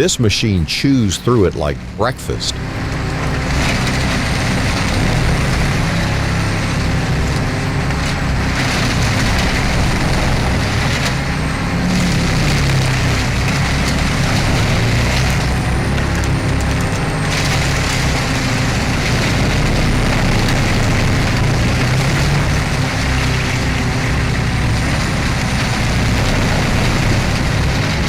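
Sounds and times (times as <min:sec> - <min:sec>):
engine drone: 0:00.0 - 0:28.0
wood chipper chewing wood: 0:00.0 - 0:28.0.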